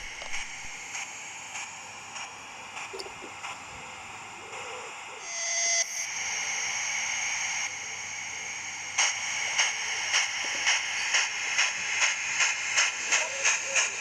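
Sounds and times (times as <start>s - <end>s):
model steam locomotive hissing: 0.0s - 14.0s
steam locomotive chuffing: 0.0s - 14.0s.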